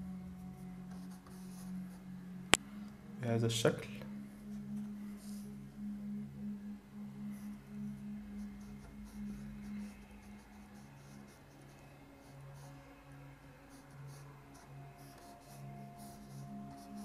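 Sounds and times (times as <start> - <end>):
pulsing low tone: 0.0 - 17.0.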